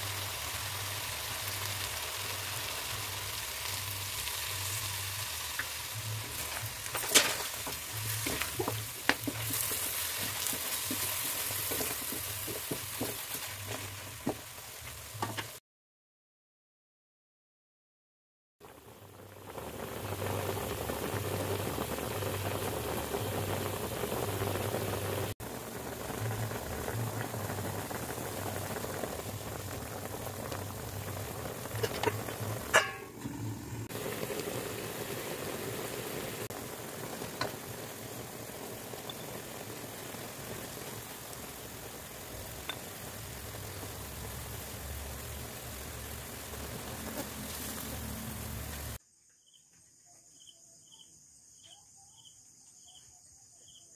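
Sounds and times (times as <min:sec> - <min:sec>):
sauce bubbling in a pan: 0:00.0 - 0:15.6, 0:18.6 - 0:49.0.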